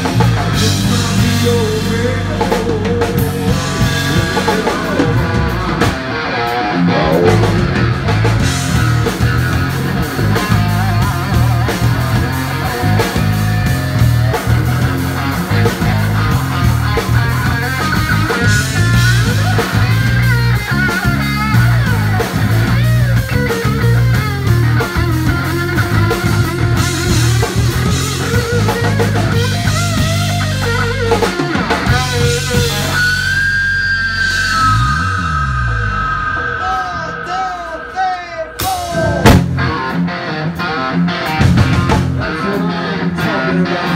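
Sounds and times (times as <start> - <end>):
blues rock band playing: 0.0 - 43.9
lead electric guitar: 0.0 - 43.9.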